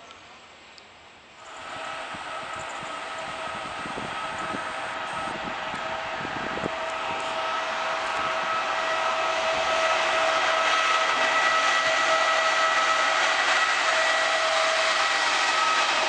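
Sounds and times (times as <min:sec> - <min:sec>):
high locomotive whine: 0:00.1 - 0:16.0
train passing with rushing noise: 0:01.4 - 0:16.0.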